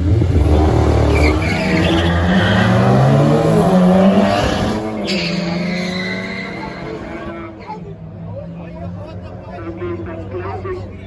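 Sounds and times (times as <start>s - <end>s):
drag car engines accelerating hard: 0.0s - 11.0s.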